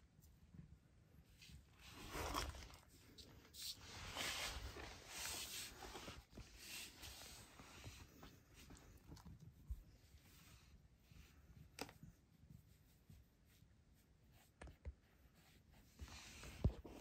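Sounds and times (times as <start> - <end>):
cat fur rustling on floor: 1.2 - 17.0.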